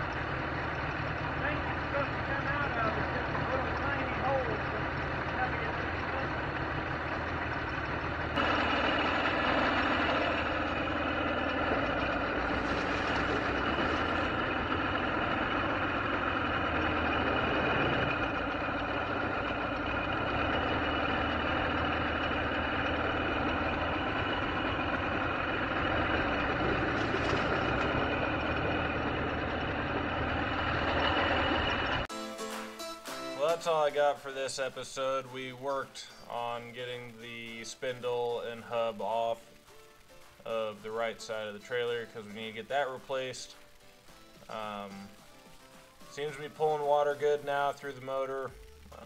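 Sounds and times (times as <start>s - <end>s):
outboard motor running: 0.0s - 32.1s, 33.4s - 39.7s, 40.4s - 49.0s.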